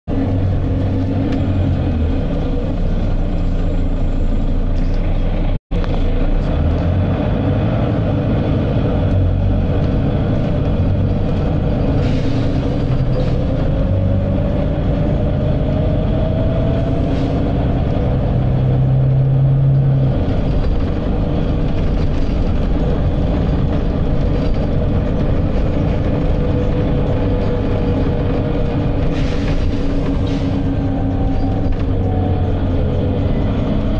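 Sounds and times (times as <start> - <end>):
bus diesel engine running: 0.1 - 33.9
rising engine whine: 0.1 - 33.9.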